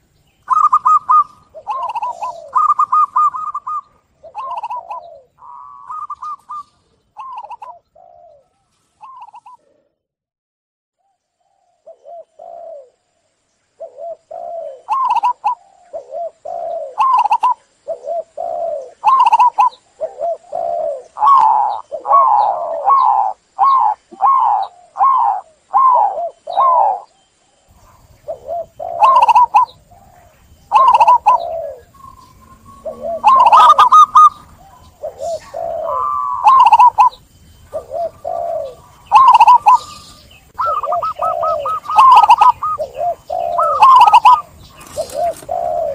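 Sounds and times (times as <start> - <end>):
dove cooing: 0.0 - 10.0, 11.5 - 13.2, 13.8 - 45.9.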